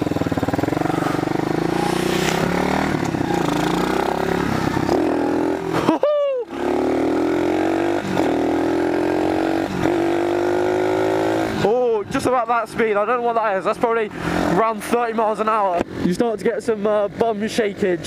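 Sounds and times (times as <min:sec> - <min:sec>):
pit bike engine revving: 0:00.0 - 0:16.1.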